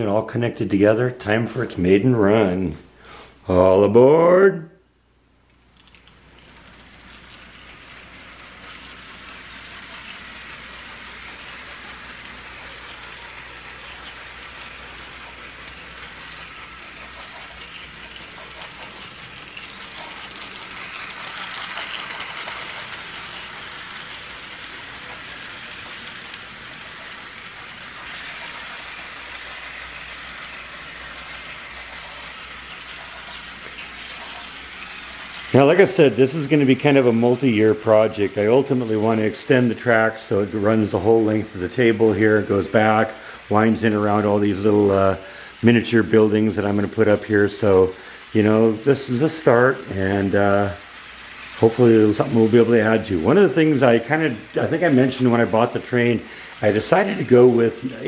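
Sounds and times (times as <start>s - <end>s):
model train rattling whir: 5.4s - 58.0s.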